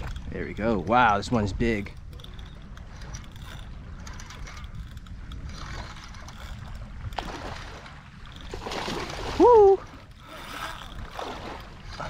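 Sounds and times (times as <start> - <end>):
low rumble of wind and water: 0.0 - 12.0.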